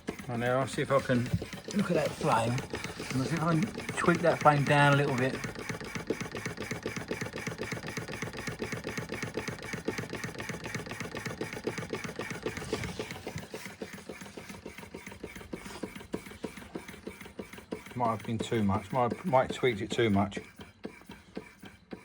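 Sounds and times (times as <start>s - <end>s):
stirling engine mechanism clattering: 0.0s - 22.0s.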